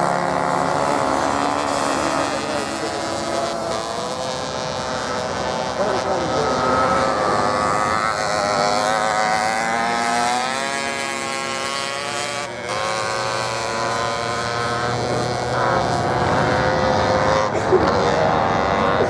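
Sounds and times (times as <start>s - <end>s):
motorcycle engine revving: 0.0s - 19.0s
motorcycle engines running: 0.0s - 19.0s.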